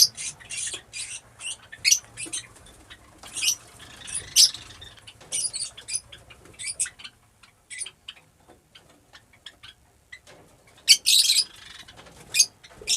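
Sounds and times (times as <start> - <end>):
lovebirds chirping: 0.0 - 12.9.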